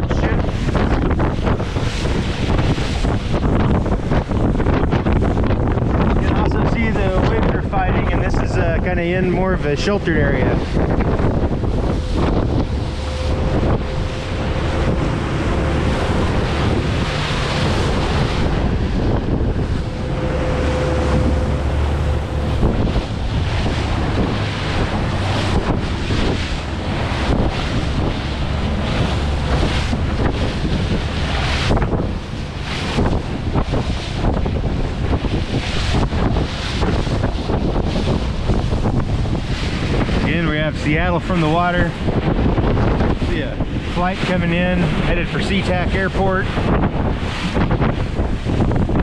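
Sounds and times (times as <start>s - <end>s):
boat engine rumble: 0.0s - 49.0s
wind buffeting microphone: 0.0s - 49.0s.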